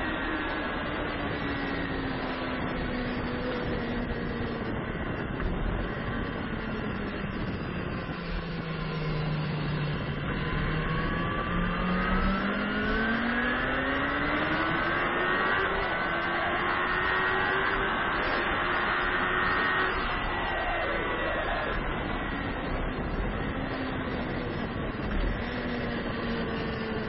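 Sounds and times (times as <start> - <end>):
motorcycle engine revving: 0.0 - 27.0
wind rushing over microphone: 0.0 - 27.0.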